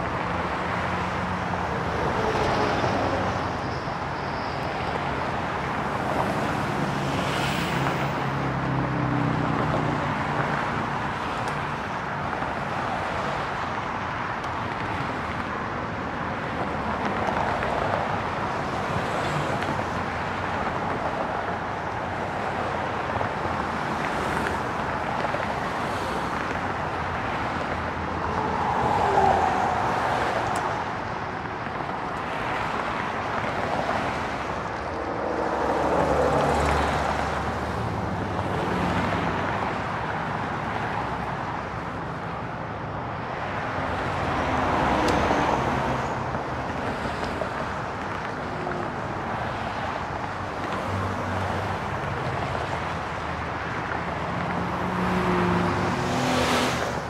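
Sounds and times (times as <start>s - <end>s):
freeway traffic rushing: 0.0s - 57.0s.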